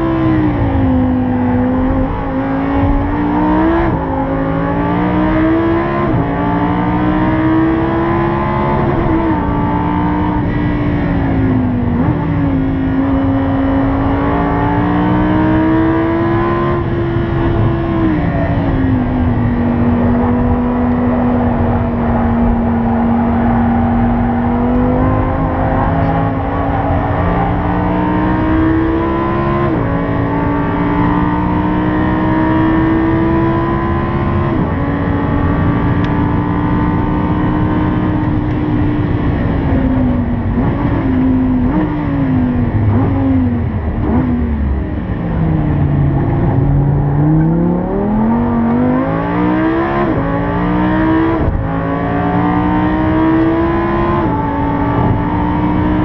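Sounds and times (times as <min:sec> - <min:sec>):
car engine revving at full throttle: 0:00.0 - 0:56.0.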